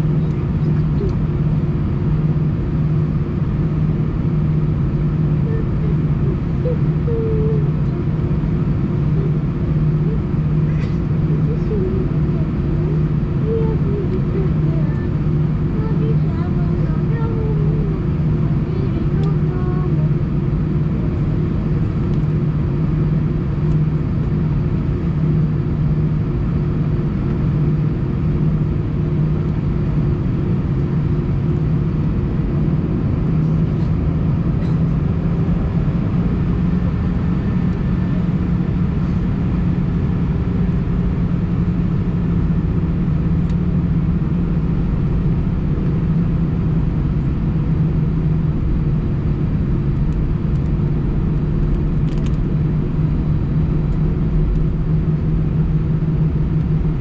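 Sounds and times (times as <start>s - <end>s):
aircraft cabin drone: 0.0s - 57.0s.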